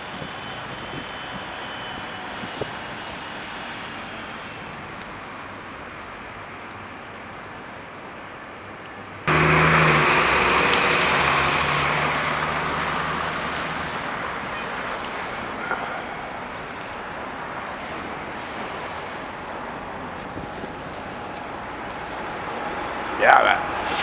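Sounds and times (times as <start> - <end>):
bus engine running close by: 0.0 - 24.0
city traffic noise: 0.0 - 24.0.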